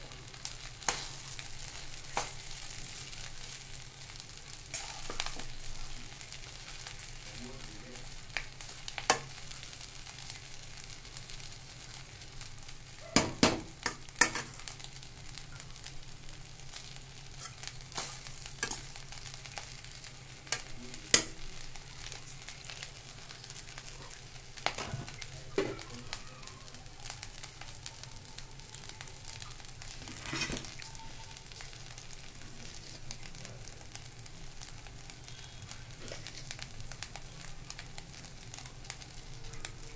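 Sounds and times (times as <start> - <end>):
rice sizzling in a pan: 0.0 - 39.9.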